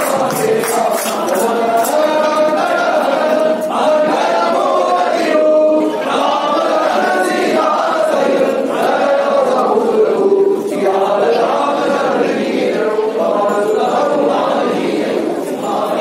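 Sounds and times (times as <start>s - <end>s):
voices chanting a prayer: 0.0s - 16.0s.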